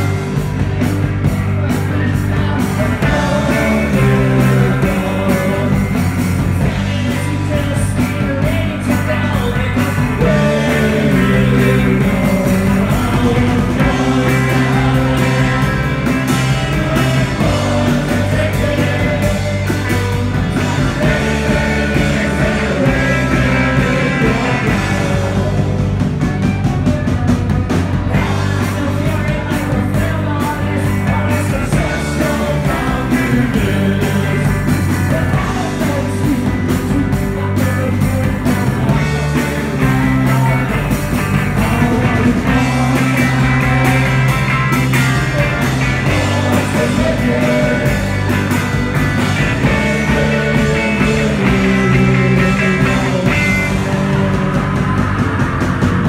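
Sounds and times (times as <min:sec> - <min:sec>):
person singing: 0:00.0 - 0:48.6, 0:49.2 - 0:56.0
bass guitar: 0:00.0 - 0:56.0
drums: 0:00.0 - 0:56.0
electric guitars: 0:00.0 - 0:56.0.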